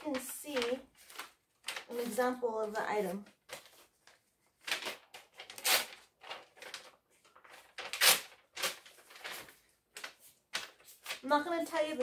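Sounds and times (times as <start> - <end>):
paper rustling and tearing: 0.0 - 12.0.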